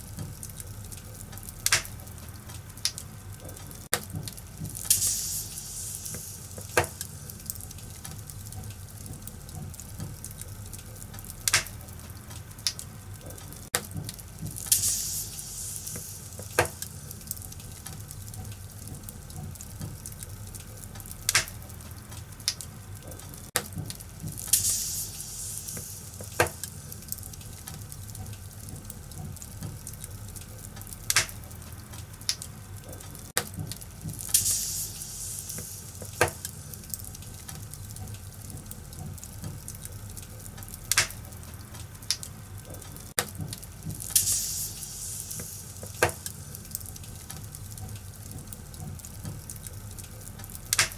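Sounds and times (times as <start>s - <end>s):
fire hissing: 0.0s - 50.9s
fire popping: 0.0s - 50.9s
wood fire crackling: 0.0s - 50.9s.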